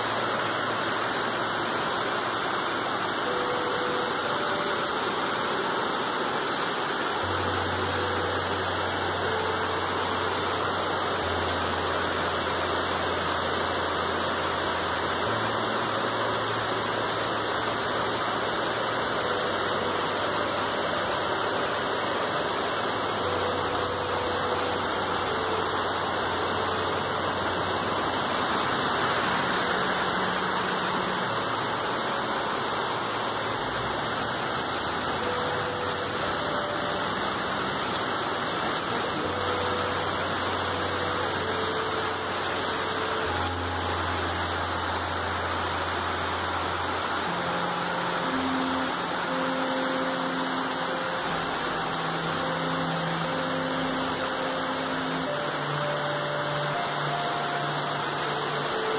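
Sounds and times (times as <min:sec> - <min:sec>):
rain on tree leaves: 0:00.0 - 0:58.9.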